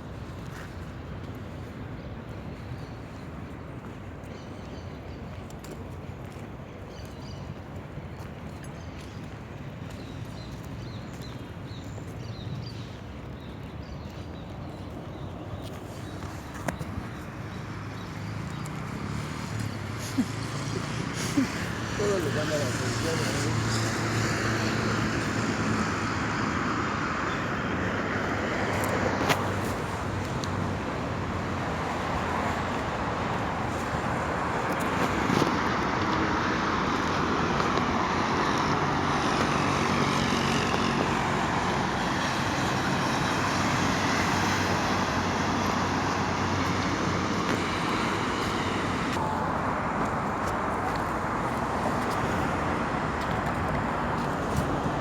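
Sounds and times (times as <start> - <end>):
cars passing: 9.2 - 55.0.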